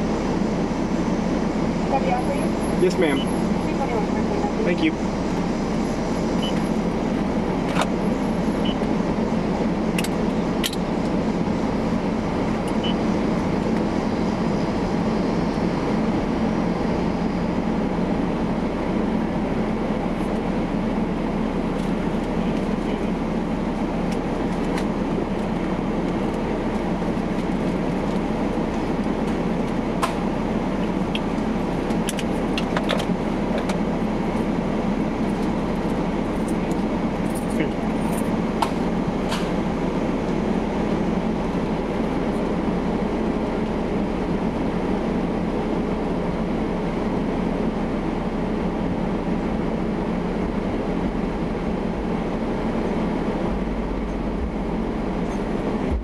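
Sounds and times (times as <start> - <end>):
car running hum in cabin: 0.0 - 56.0.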